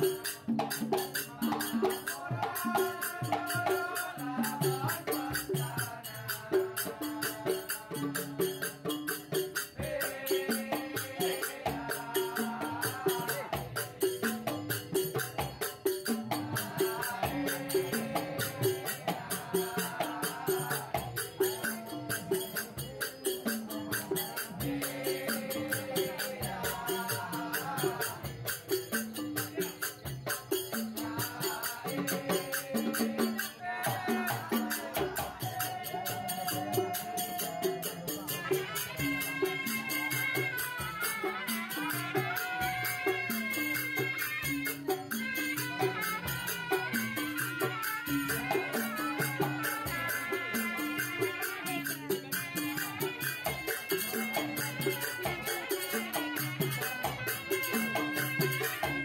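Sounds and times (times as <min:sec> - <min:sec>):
music with fast percussion beat: 0:00.0 - 0:59.0.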